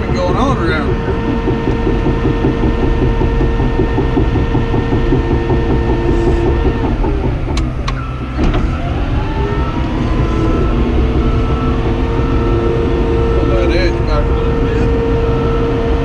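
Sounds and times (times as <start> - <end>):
bulldozer diesel engine under load: 0.0 - 16.0
tracks clattering: 0.0 - 16.0.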